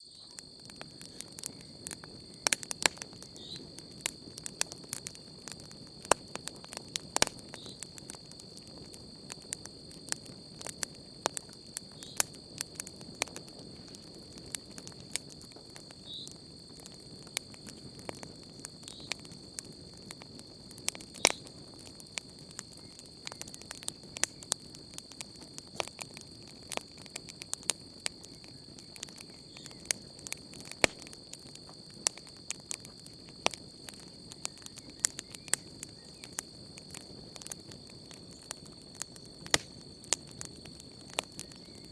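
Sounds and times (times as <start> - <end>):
crickets trilling: 0.0 - 41.9
campfire crackling and popping: 0.1 - 41.9.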